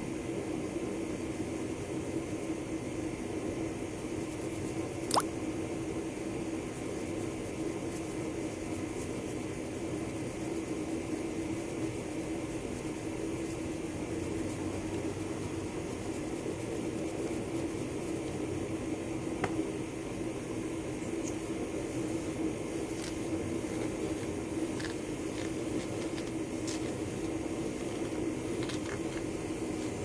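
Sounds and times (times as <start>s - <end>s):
mechanical hum: 0.0s - 30.0s.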